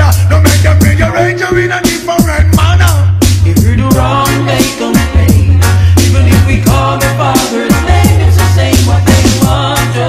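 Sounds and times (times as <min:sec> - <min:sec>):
rap vocals: 0:00.0 - 0:09.9
heavy bass line: 0:00.0 - 0:10.0
hip hop drum machine beat: 0:00.0 - 0:10.0.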